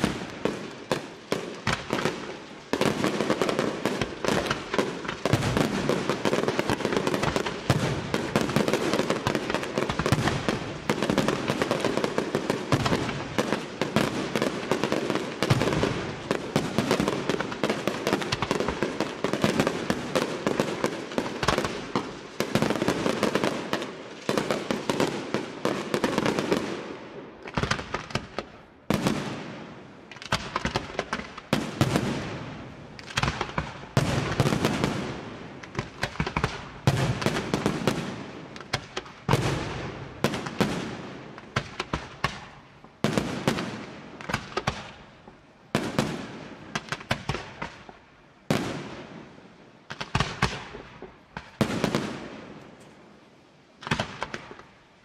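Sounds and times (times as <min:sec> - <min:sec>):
fireworks bursting: 0:00.0 - 0:53.2, 0:53.8 - 0:54.8.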